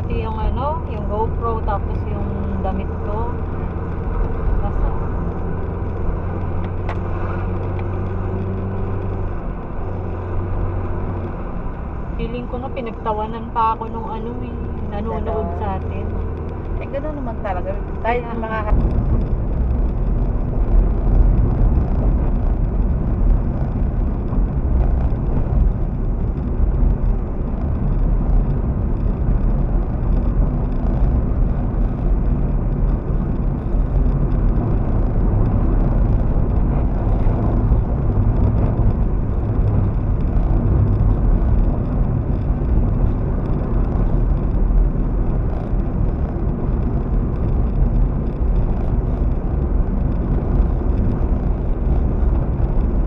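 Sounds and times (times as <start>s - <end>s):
car tyres and engine rumble: 0.0s - 53.0s.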